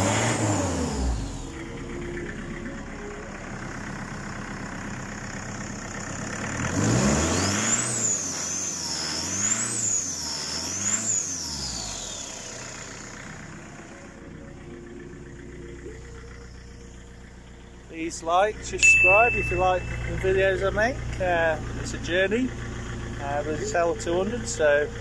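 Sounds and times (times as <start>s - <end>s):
diesel engine idling and revving: 0.0s - 25.0s.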